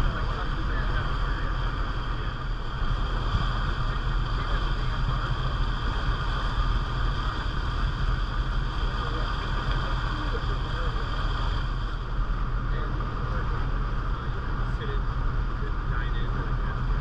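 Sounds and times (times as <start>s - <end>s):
water rushing past hull: 0.0s - 15.9s
boat engine running: 0.0s - 17.0s.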